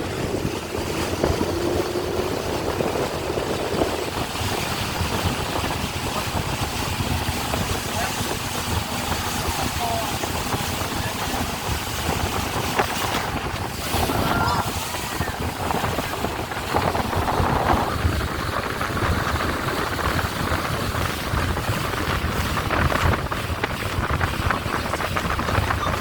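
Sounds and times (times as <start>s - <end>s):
speedboat engine and hull: 0.0s - 26.0s
wind buffeting microphone: 0.0s - 26.0s.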